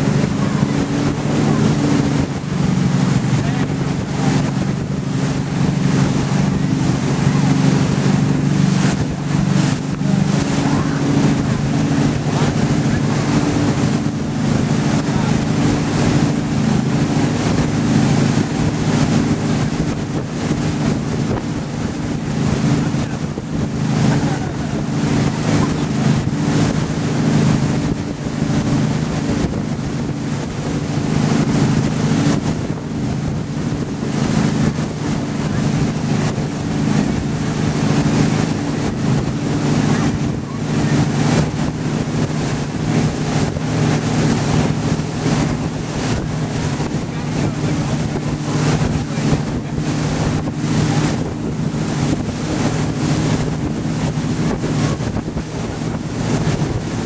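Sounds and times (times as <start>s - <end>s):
churning boat wake: 0.0s - 57.0s
motorboat engine running: 0.0s - 57.0s
wind buffeting microphone: 0.0s - 57.0s.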